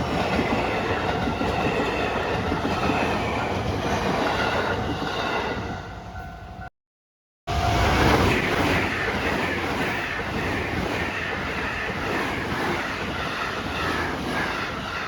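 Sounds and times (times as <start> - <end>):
train wheels rumbling on rail: 0.0 - 5.9, 7.5 - 15.0.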